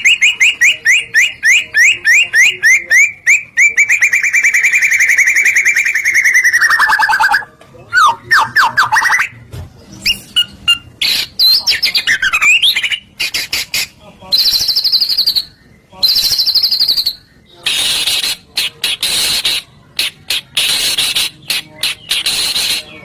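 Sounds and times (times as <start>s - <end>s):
bird harsh rasping notes: 0.0s - 9.4s, 10.0s - 23.0s
songbird whistled song: 0.0s - 23.0s.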